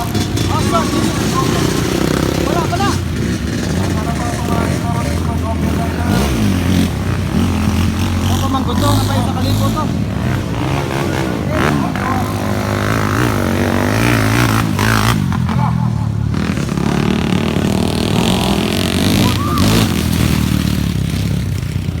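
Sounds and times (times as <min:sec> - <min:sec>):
dirt bike engines revving: 0:00.0 - 0:22.0
voices: 0:00.0 - 0:22.0.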